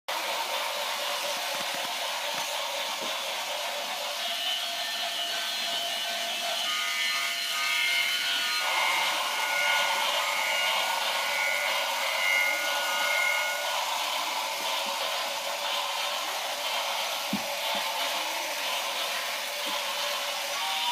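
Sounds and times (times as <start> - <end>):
toy train motors whirring: 0.1 - 20.9.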